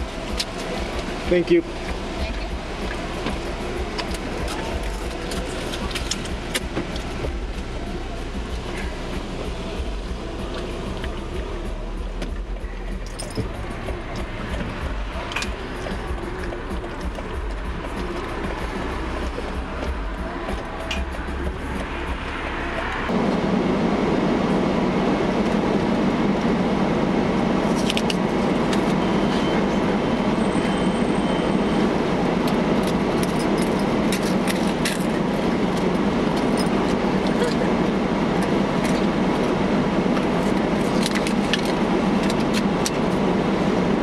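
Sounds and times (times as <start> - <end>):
car cabin noise: 0.0 - 44.0.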